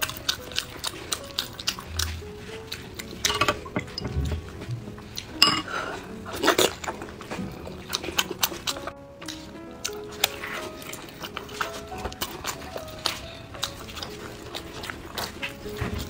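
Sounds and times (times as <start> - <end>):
wet eating smacks and slurps: 0.0 - 16.0.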